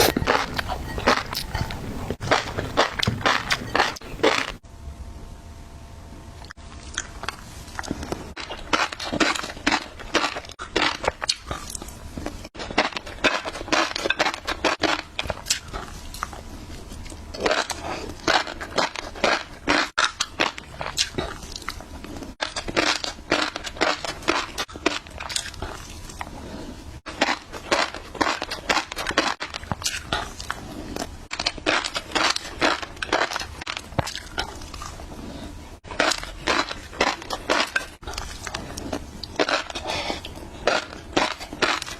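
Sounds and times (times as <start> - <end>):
crunchy bites and chewing: 0.0 - 4.6, 6.4 - 41.9.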